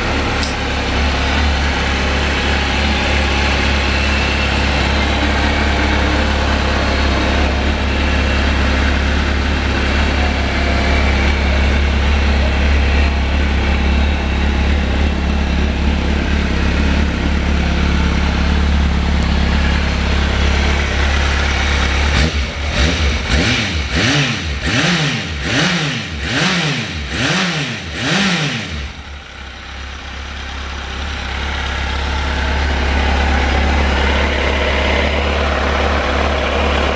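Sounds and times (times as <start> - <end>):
engine revving: 0.0 - 29.4, 31.3 - 36.9
motorcycle engine idling: 0.0 - 36.9.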